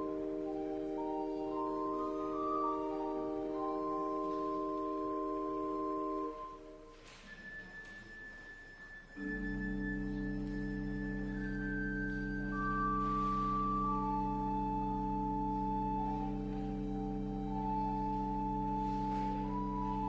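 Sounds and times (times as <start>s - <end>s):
church organ playing slowly: 0.0s - 20.0s.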